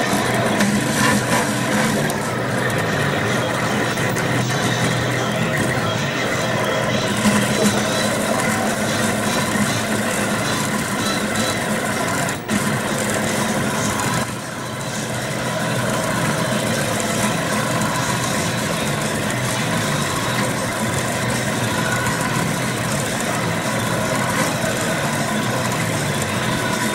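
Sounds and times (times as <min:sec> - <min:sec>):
fan hum: 0:00.0 - 0:26.9
stepper motors whining: 0:00.0 - 0:26.9.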